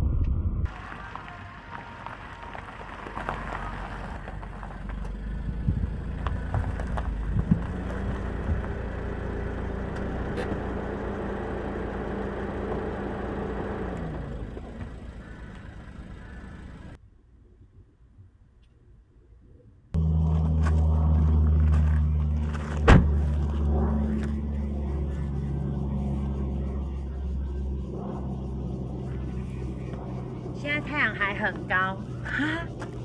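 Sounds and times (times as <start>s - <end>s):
car engine drone: 0.0s - 17.0s, 19.9s - 33.0s.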